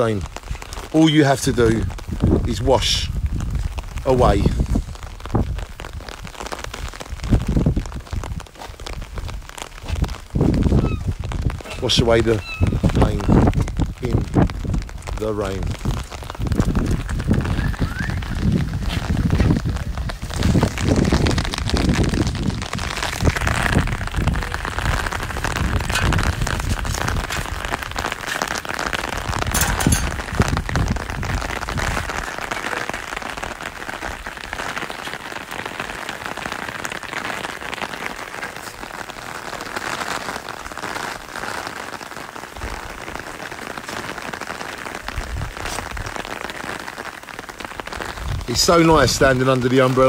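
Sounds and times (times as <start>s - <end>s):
rain drumming on fabric umbrella: 0.0s - 50.0s.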